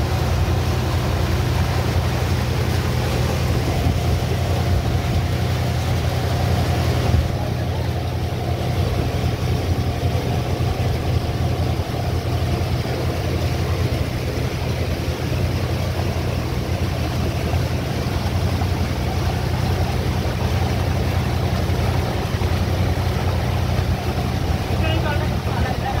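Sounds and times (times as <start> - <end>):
motorboat engine running: 0.0 - 26.0
water rushing from wake: 0.0 - 26.0.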